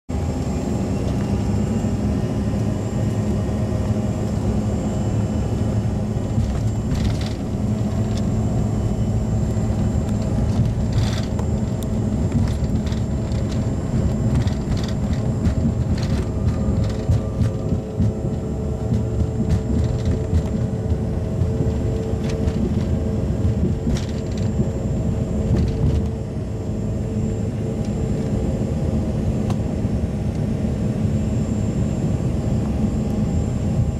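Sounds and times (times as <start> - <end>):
jet engine low rumble: 0.1 - 33.9.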